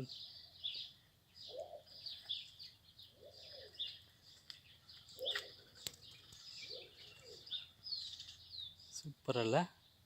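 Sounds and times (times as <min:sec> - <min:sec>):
lower arched bird calls: 0:00.0 - 0:09.1
small birds chirping: 0:00.0 - 0:10.0.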